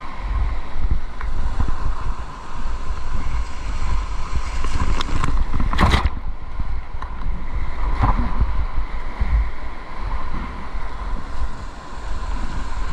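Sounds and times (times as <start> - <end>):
river water rushing: 0.0 - 12.9
wind rumble on microphone: 0.0 - 12.9.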